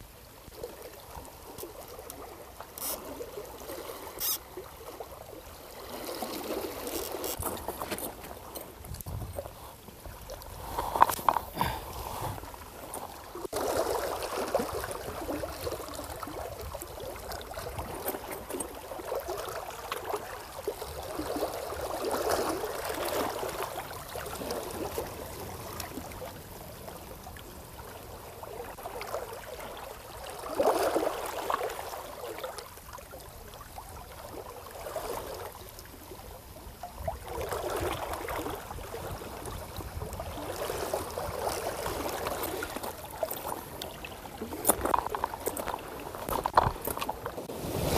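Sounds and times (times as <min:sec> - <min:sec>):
water lapping against rocks: 0:00.0 - 0:47.9.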